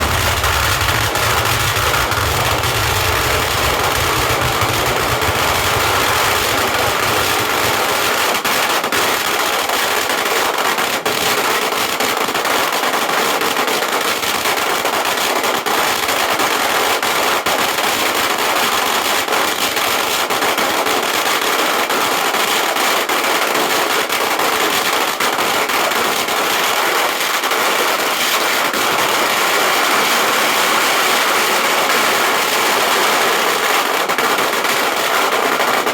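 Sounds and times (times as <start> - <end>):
firecrackers popping: 0.0 - 35.9.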